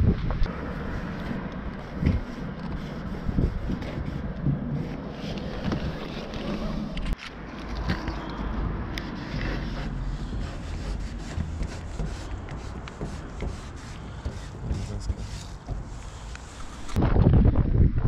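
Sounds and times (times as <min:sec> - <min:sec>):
wind buffeting microphone: 0:00.0 - 0:07.2, 0:09.7 - 0:18.0
marker scratching on painted surface: 0:00.6 - 0:07.1, 0:08.0 - 0:17.0.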